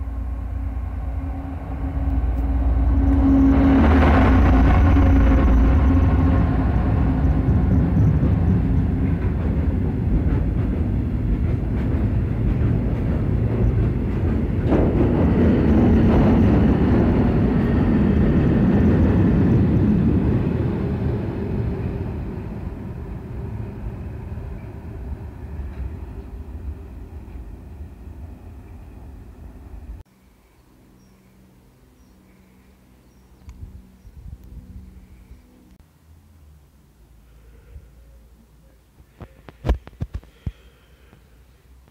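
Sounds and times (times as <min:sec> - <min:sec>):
diesel train rumbling past: 0:00.0 - 0:38.7.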